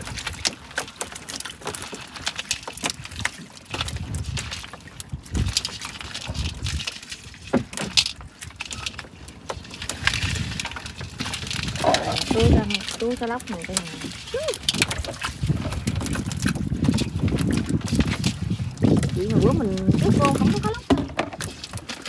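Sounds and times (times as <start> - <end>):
clatter and knocks in a boat: 0.0 - 22.0.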